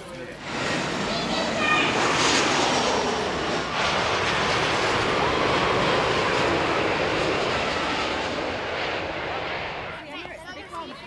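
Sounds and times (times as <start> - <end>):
jet airliner flying overhead: 0.0 - 11.0.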